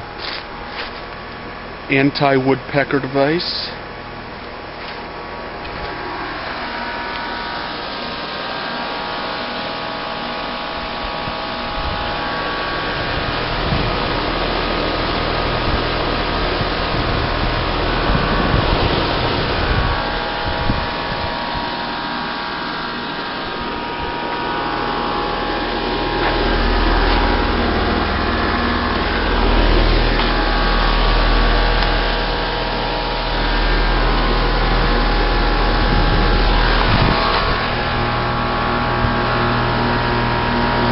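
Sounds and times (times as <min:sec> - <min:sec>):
heat pump humming: 0:00.0 - 0:40.9
low rumbling: 0:03.8 - 0:40.9.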